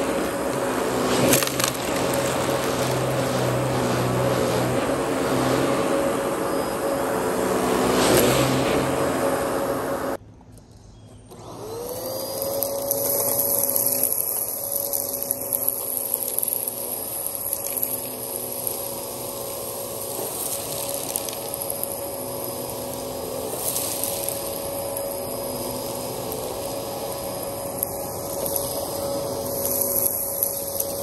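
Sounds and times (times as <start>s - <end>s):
debris rattling in vacuum: 0.0s - 10.2s, 11.4s - 31.0s
vacuum cleaner motor whine: 0.0s - 10.2s, 11.2s - 31.0s.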